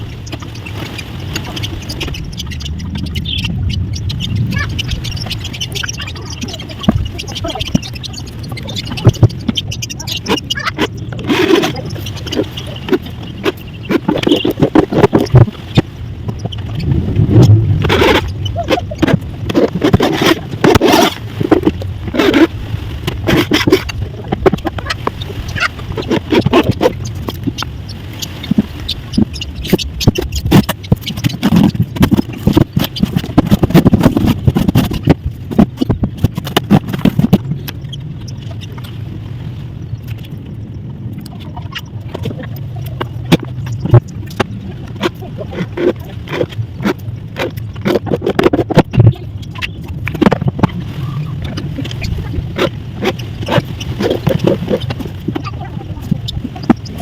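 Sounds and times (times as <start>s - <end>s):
knocks clicks and scrapes: 0.0s - 39.0s, 41.1s - 57.0s.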